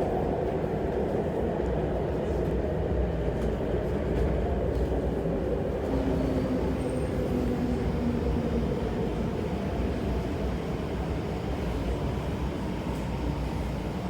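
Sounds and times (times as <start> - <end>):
train running low rumble: 0.0 - 14.0.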